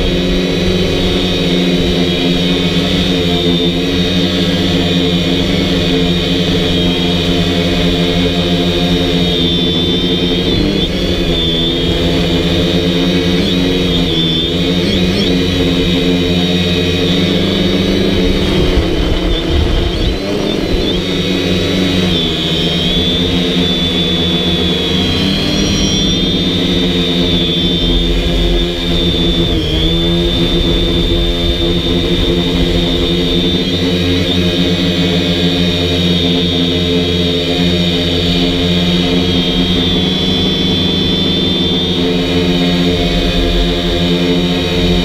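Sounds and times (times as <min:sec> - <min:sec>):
quadcopter motors whining: 0:00.0 - 0:45.0.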